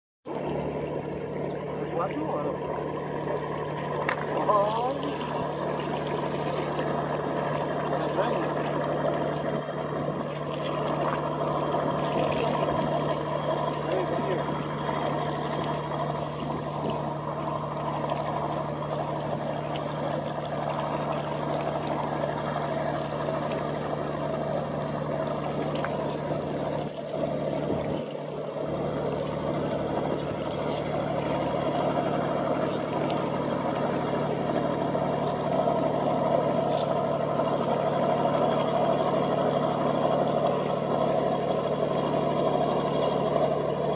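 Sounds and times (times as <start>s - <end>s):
boat diesel engine humming: 0.2s - 43.9s
water wash: 0.3s - 43.9s.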